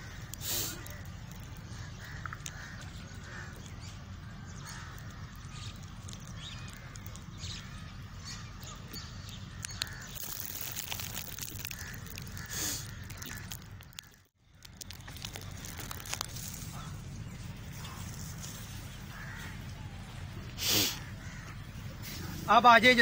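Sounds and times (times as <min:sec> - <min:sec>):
crows cawing: 0:00.0 - 0:08.5, 0:09.5 - 0:17.0, 0:19.0 - 0:20.0, 0:20.6 - 0:22.3
steady low rumble: 0:00.0 - 0:22.9.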